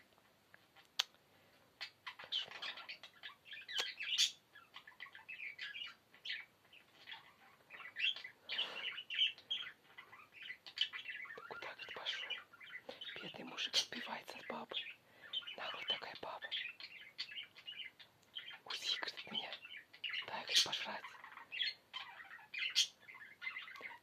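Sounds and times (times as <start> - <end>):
budgerigars chattering: 1.8 - 24.0.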